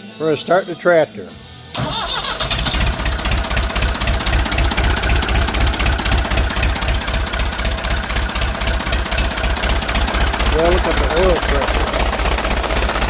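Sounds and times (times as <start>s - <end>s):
diesel tractor engine idling: 1.8s - 13.0s.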